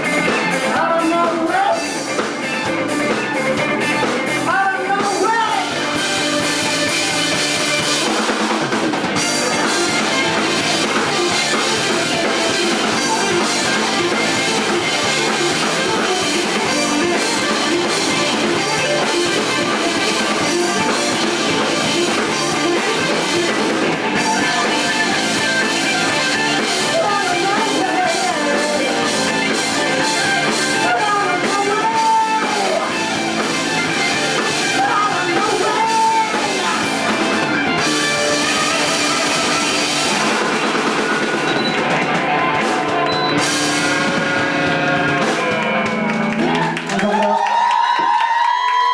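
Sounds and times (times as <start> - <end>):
live rock band playing: 0.0 - 48.2.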